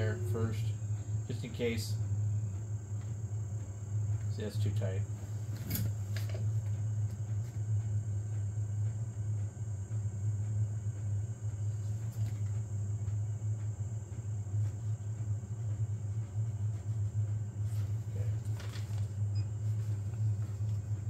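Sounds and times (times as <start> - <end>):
printer fans humming: 0.0 - 21.0.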